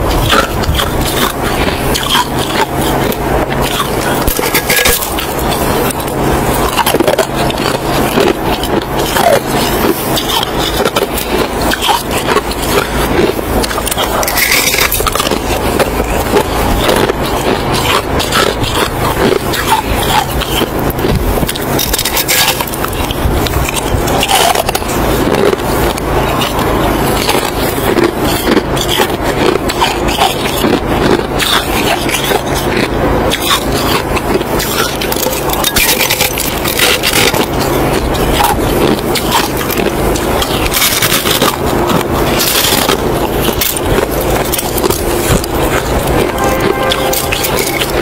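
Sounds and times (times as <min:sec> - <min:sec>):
chewing crunchy snow: 0:00.0 - 0:48.0
steady low hum: 0:00.0 - 0:48.0.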